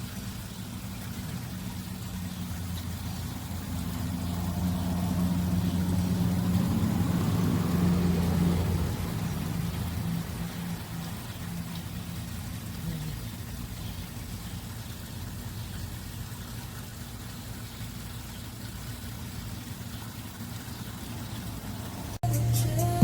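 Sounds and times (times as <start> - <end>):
water fountain falling water: 0.0 - 22.2.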